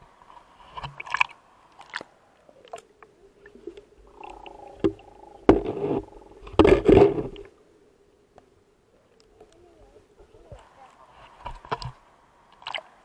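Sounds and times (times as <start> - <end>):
low underwater hum: 0.0 - 13.0.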